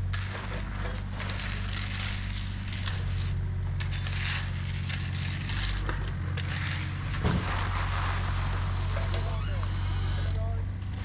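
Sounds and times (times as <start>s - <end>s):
diesel engine idling: 0.0s - 11.0s
shovels scraping through gravel: 0.0s - 11.0s.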